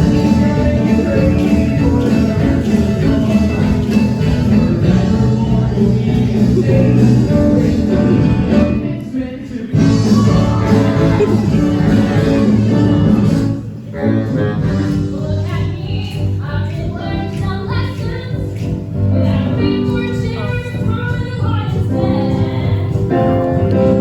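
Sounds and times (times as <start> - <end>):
music with singing: 0.0 - 24.0.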